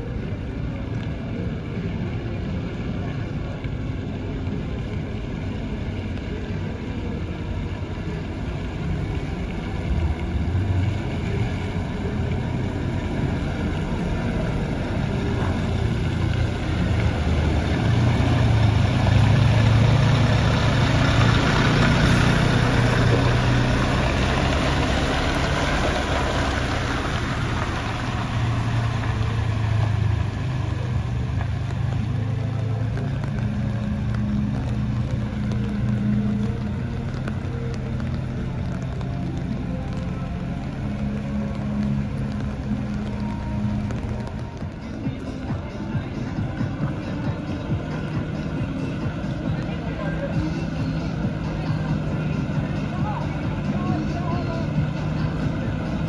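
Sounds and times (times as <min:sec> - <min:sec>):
truck diesel engine rumbling: 0:00.0 - 0:56.0.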